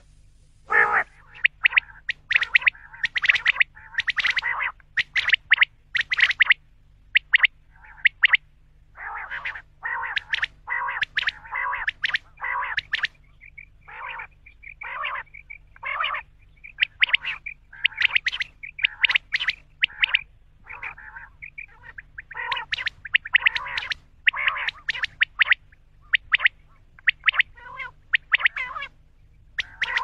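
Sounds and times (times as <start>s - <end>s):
quail calling: 0.7s - 30.0s.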